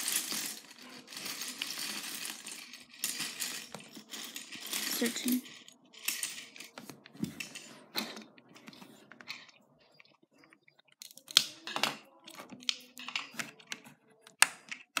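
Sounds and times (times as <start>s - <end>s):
plastic bricks clicking and clattering: 0.0s - 15.0s.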